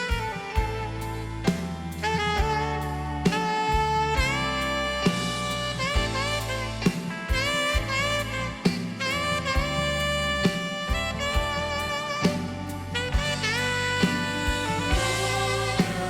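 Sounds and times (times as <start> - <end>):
bass: 0.0 - 16.0
steady drum beat: 0.0 - 16.0
lead instrument sliding melody: 2.0 - 16.0.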